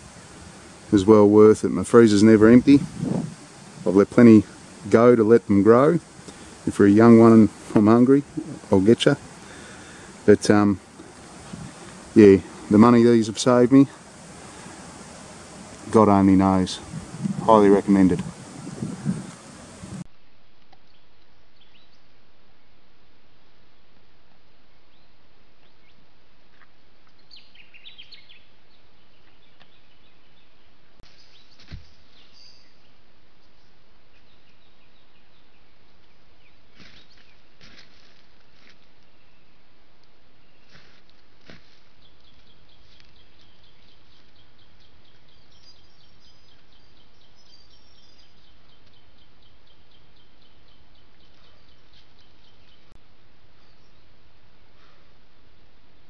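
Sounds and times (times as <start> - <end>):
small birds chirping: 0.0 - 20.1, 20.8 - 22.1, 24.9 - 56.0
microphone hiss: 0.0 - 56.0.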